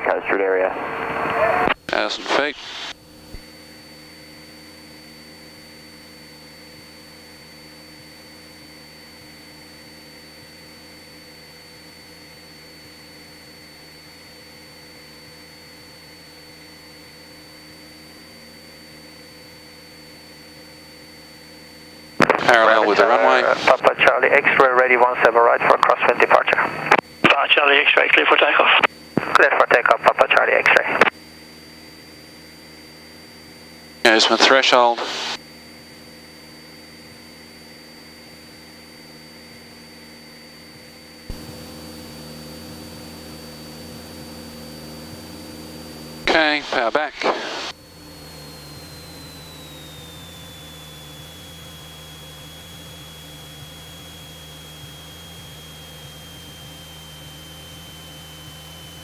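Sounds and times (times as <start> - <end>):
airplane engine and airflow hum: 0.0 - 59.0
high-pitched whine: 0.0 - 59.0.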